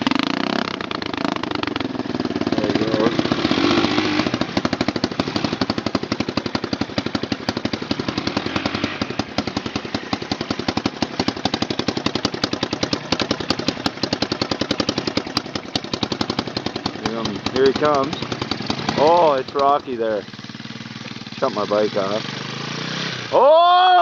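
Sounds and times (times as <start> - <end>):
quad bike engine idling: 0.0 - 24.0.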